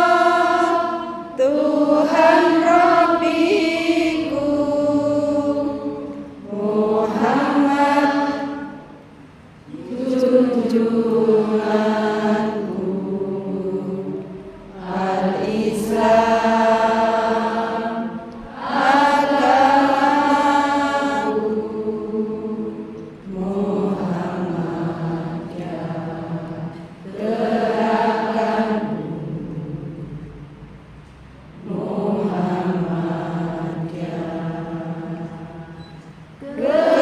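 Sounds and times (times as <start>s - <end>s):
group of voices chanting a prayer: 0.0s - 9.0s, 9.7s - 30.3s, 31.6s - 37.0s.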